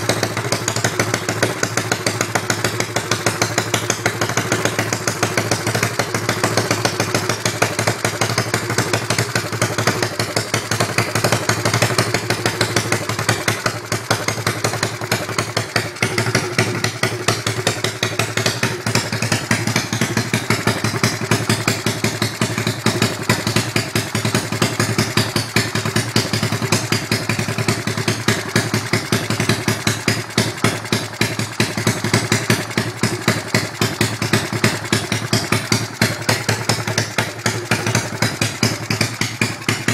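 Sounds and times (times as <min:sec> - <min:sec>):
small motorbike engine idling: 0:00.0 - 0:39.9.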